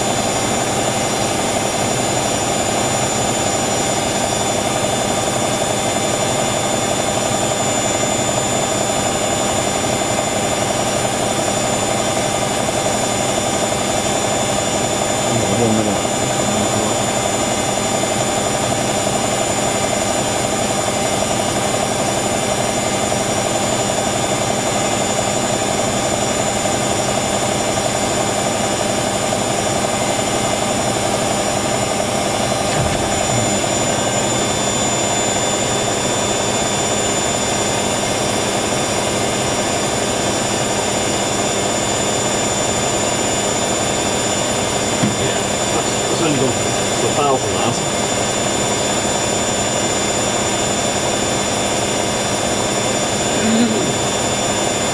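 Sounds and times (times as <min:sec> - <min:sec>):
washer dryer spinning: 0:00.0 - 0:54.9.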